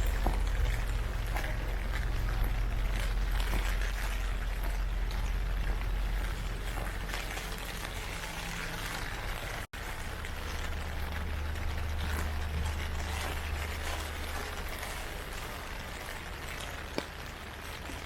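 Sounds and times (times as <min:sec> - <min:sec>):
heavy rain pattering: 0:00.0 - 0:18.0
low steady rumble: 0:00.0 - 0:18.0.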